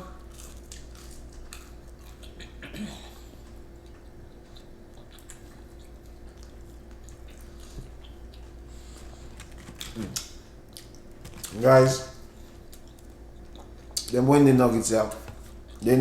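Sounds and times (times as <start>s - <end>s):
person chewing food: 0.1s - 11.6s, 12.2s - 14.2s, 15.1s - 15.9s.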